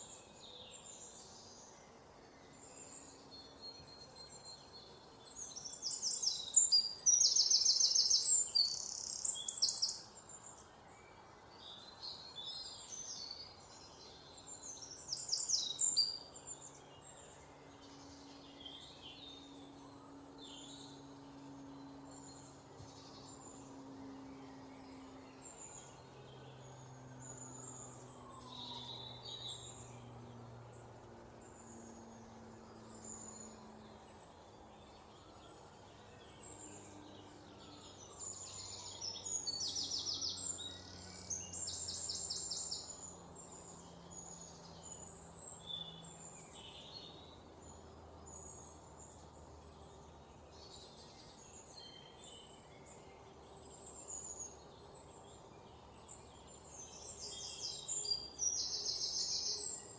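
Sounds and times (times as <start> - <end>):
faint outdoor background: 0.0 - 59.9
songbirds chirping and singing: 0.0 - 59.9.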